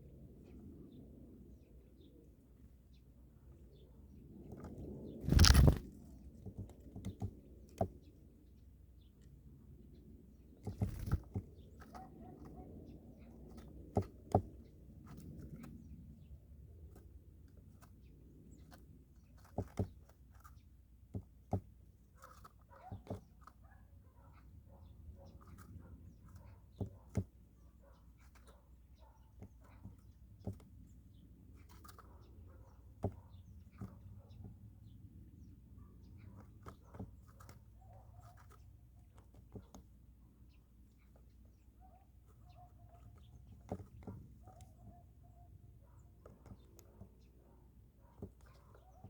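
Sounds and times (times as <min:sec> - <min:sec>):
birds pecking at food: 0:04.1 - 0:49.0.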